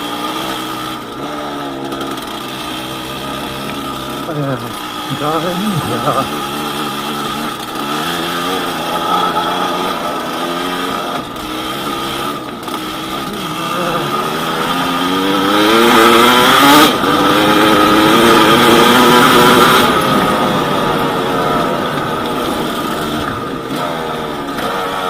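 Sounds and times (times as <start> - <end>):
dirt bike engine accelerating: 0.0 - 25.0.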